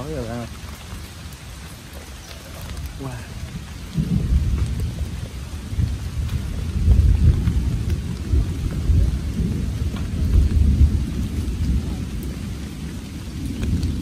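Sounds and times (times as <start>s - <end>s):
heavy rain: 0.0s - 14.0s
raindrops ticking: 0.0s - 14.0s
wind rumble on microphone: 0.0s - 14.0s.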